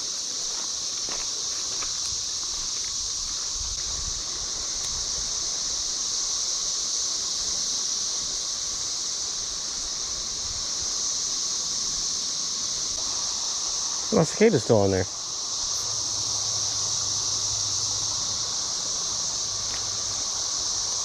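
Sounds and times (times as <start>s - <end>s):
cicadas chorusing: 0.0s - 21.0s.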